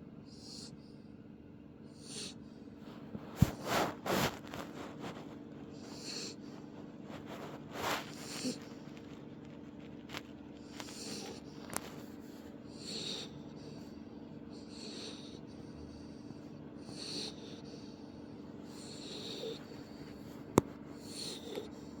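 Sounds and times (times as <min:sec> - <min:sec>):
puppy snoring: 0:00.3 - 0:01.0, 0:01.9 - 0:22.0.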